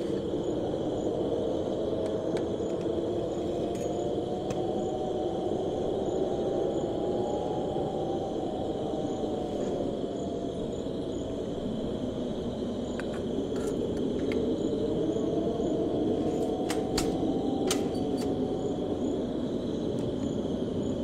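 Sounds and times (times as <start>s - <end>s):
crickets trilling: 0.0s - 21.0s
wind rushing: 0.0s - 21.0s.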